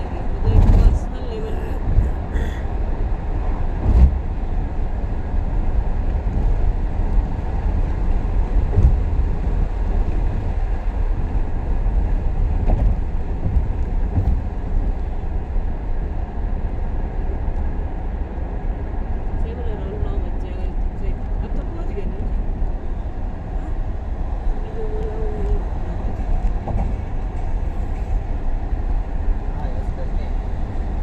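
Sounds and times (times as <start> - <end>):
vehicle interior rumble: 0.0 - 31.0.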